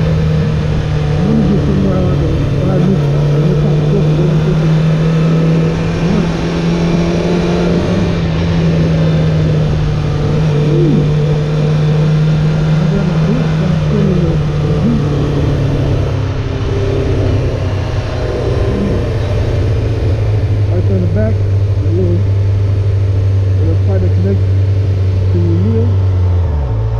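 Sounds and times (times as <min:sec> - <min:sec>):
motorcycle engine running: 0:00.0 - 0:26.9
wind and road noise: 0:00.0 - 0:26.9.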